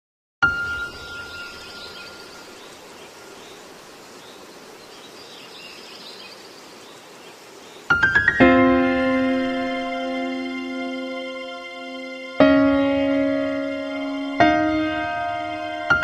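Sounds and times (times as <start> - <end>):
faint ambient hiss: 0.4 - 16.0.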